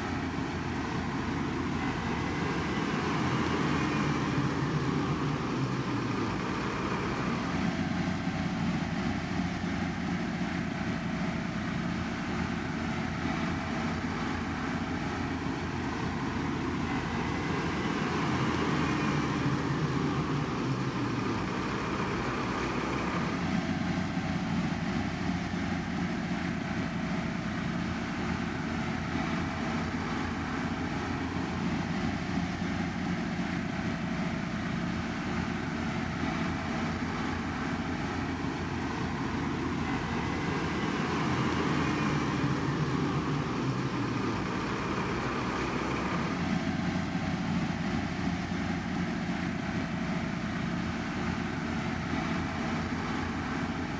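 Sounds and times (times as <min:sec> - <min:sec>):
heavy machinery engine running: 0:00.0 - 0:53.9.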